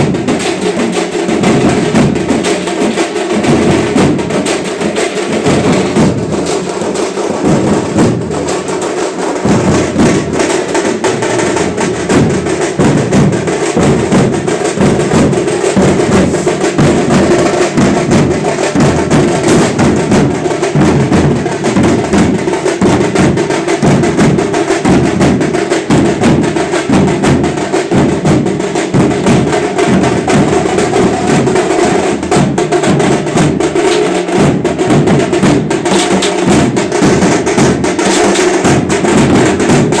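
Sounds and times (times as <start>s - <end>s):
fast drumming: 0.0s - 40.0s.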